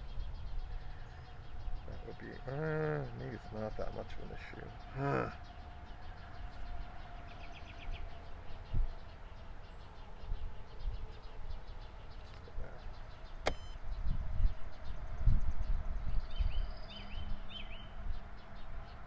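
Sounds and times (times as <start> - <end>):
wind rumble on microphone: 0.0 - 4.3, 5.9 - 19.0.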